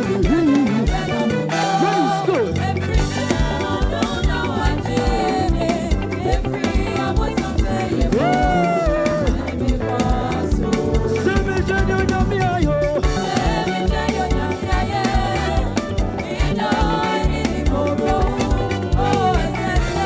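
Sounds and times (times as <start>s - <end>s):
live band drums and bass: 0.0s - 20.0s
voices singing: 0.0s - 20.0s.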